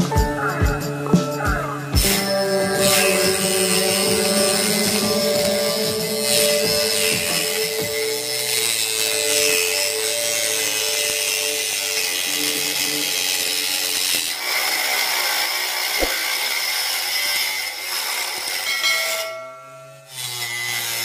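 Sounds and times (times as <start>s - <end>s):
small electric motor whining: 0.0s - 21.0s
saw blade rasping through wood: 1.9s - 21.0s.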